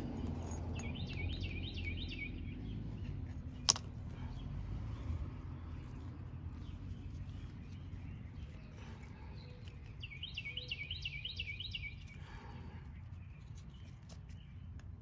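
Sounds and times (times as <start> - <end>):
low outdoor rumble: 0.0 - 15.0
songbird high chirping notes: 0.0 - 15.0.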